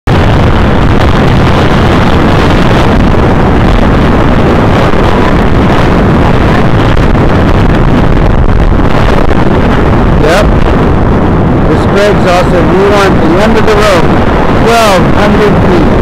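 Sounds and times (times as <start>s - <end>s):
wind buffeting microphone: 0.1s - 16.0s.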